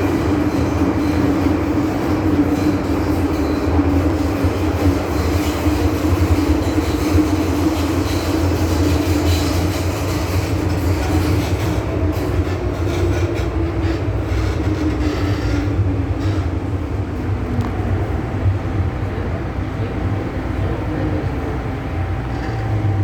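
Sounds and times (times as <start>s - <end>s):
constant hum: 0.0s - 23.0s
train wheels rumbling on rail: 0.0s - 23.0s.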